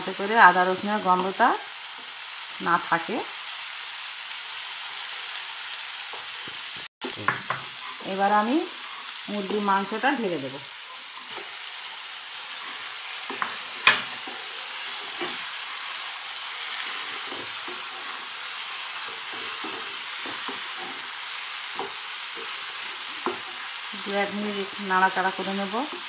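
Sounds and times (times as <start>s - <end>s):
chicken sizzling in frying pan: 0.0s - 26.0s.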